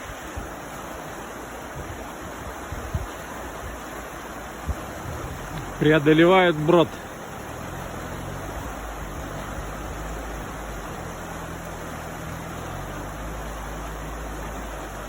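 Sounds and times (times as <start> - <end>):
river water rushing: 0.0 - 15.0
vehicle engine humming: 2.9 - 15.0.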